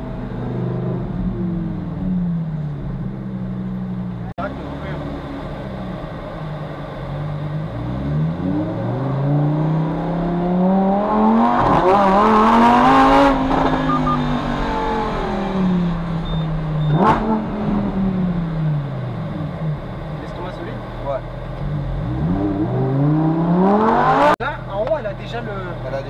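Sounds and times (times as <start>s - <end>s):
car engine accelerating: 0.0s - 24.4s.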